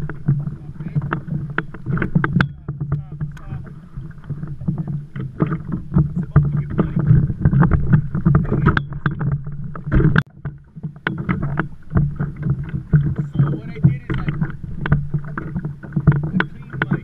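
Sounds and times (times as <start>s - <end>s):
water knocking against kayak hull: 0.0s - 17.0s.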